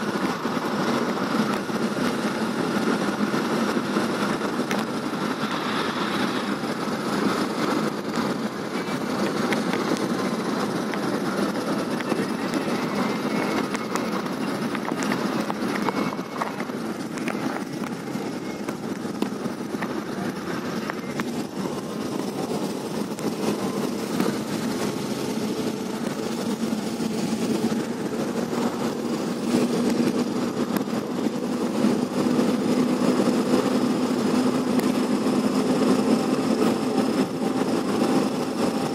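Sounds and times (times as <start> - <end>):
vehicle engine and rolling noise: 0.0 - 38.9.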